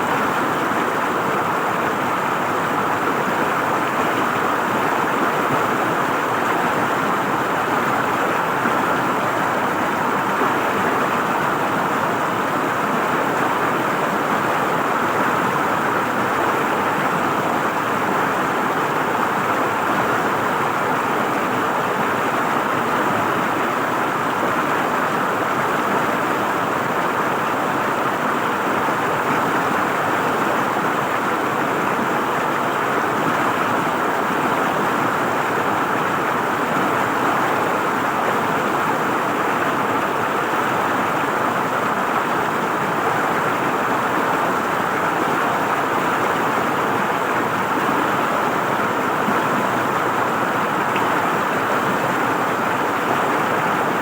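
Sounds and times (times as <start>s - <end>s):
river water gurgling over rocks: 0.0s - 54.0s.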